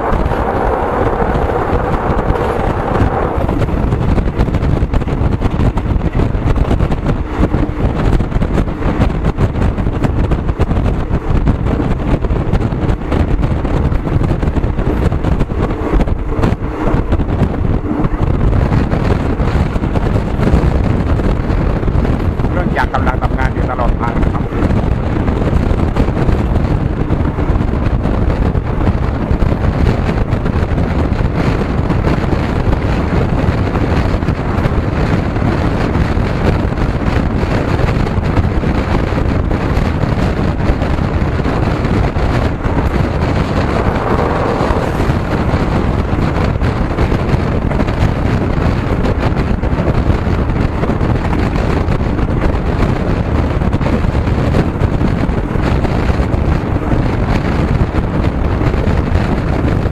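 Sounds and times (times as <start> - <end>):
moving vehicle rumble: 0.0 - 59.9
wind buffeting microphone: 0.0 - 59.9.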